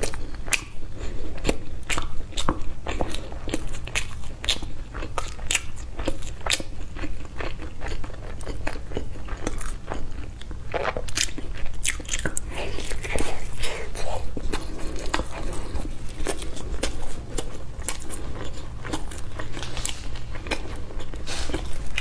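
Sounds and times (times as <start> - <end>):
chewing with mouth clicks: 0.0 - 22.0.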